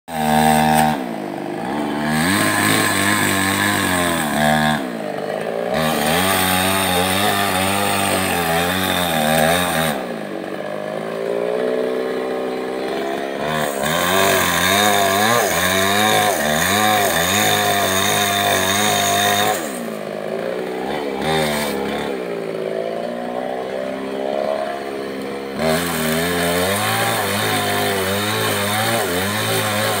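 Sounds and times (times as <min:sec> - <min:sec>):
chainsaw cutting wood: 0:00.1 - 0:30.0.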